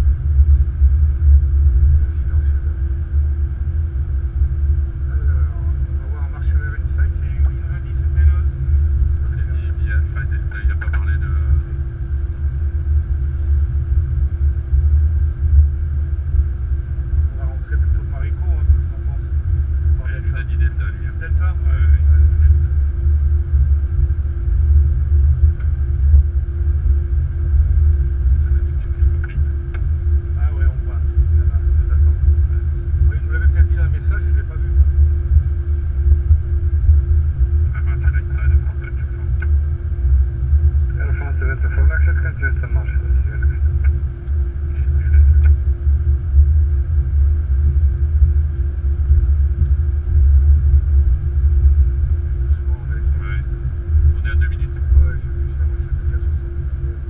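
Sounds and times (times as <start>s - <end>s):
low aircraft rumble: 0.0s - 57.0s
thin steady hum: 0.0s - 57.0s.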